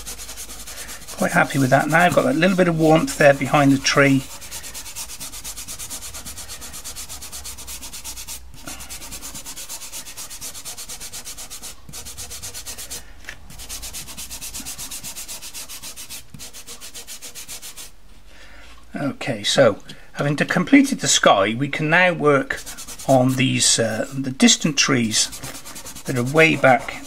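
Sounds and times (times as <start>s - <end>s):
pastel rubbing on paper: 0.0s - 18.0s, 22.5s - 27.0s.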